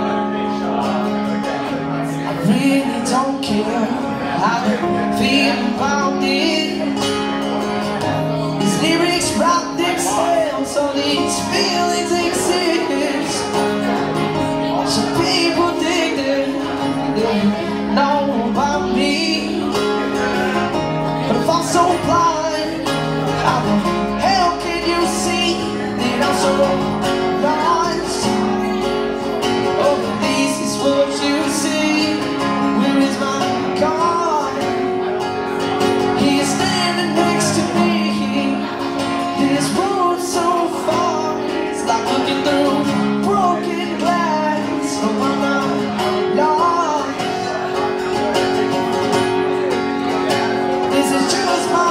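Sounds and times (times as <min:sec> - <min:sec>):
person singing: 0:00.0 - 0:51.9
strummed acoustic guitars: 0:00.0 - 0:51.9.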